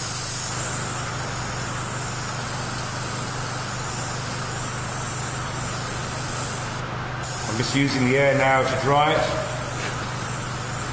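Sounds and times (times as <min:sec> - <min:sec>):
airbrush hissing: 0:00.0 - 0:10.9
compressor humming: 0:00.0 - 0:10.9.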